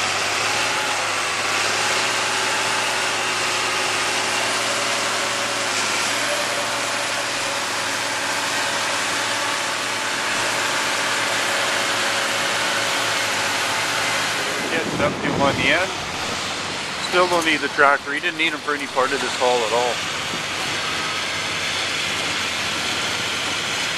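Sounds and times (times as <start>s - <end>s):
truck diesel engine under load: 0.0s - 23.9s.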